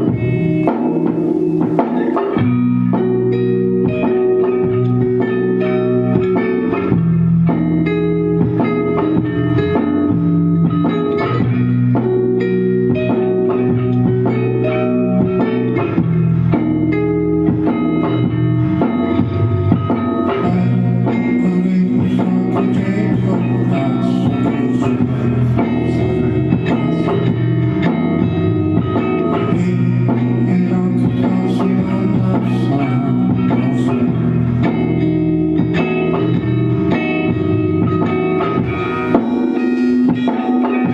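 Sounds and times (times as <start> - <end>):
drum kit beat: 0.0 - 40.9
electric guitar chords: 0.0 - 40.9
live band playing: 0.0 - 40.9.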